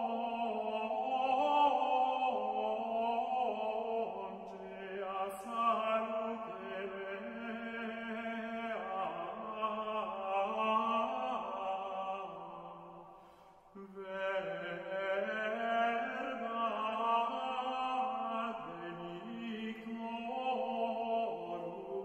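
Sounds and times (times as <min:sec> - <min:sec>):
sung liturgical chant: 0:00.0 - 0:22.0.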